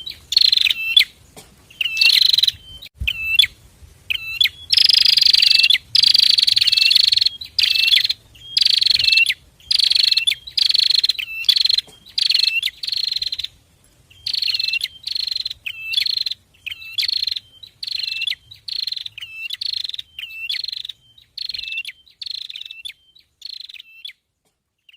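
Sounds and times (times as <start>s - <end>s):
birds singing buzzy chirps: 0.0s - 24.9s.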